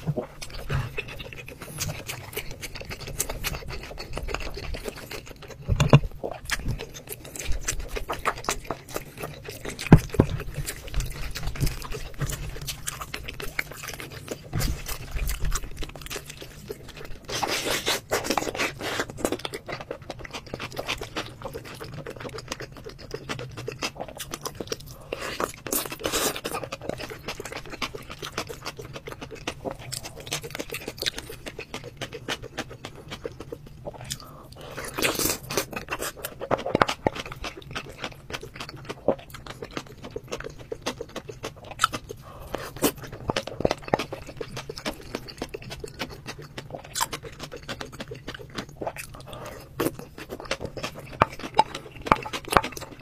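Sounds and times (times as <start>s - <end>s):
chewing: 0.0s - 53.0s.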